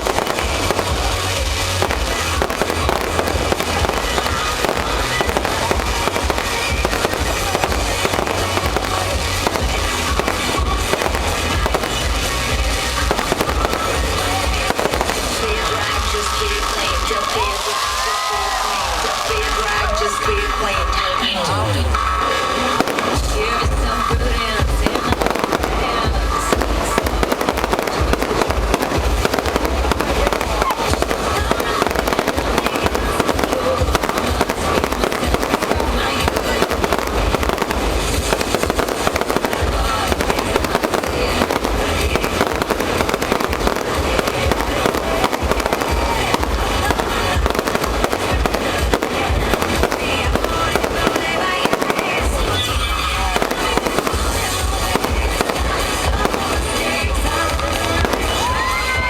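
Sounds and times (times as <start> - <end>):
music with pulsing bass beat: 0.0 - 17.0, 17.9 - 59.0
fireworks bursting and crackling: 0.0 - 59.0.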